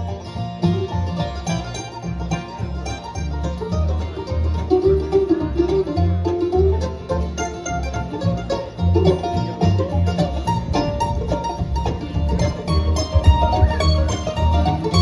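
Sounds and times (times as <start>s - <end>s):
bluegrass band playing: 0.0s - 15.0s
plucked banjo notes: 0.0s - 15.0s.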